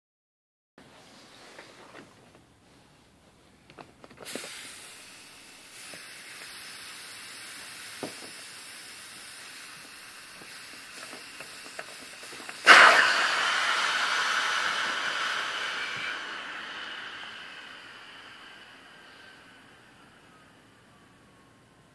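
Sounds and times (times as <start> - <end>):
air hissing from air mattress: 4.2 - 21.9.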